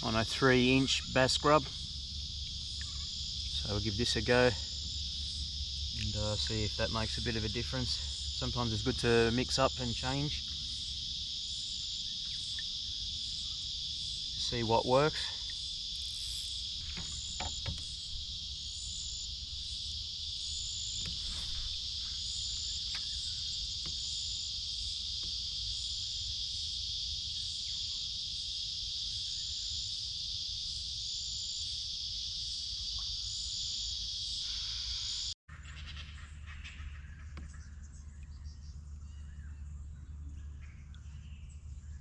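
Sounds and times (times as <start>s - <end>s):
insects buzzing: 0.0s - 35.4s.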